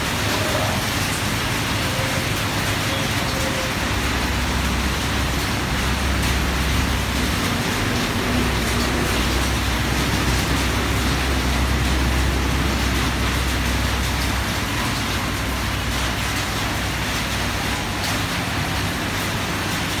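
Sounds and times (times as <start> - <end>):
tyres hissing on wet road: 0.0 - 20.0.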